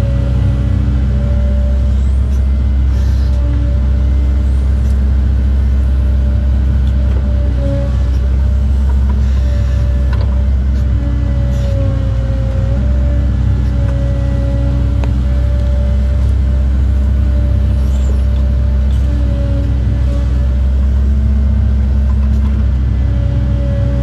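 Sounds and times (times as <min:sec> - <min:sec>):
excavator engine drone: 0:00.0 - 0:24.0
hydraulic whine: 0:00.0 - 0:24.0.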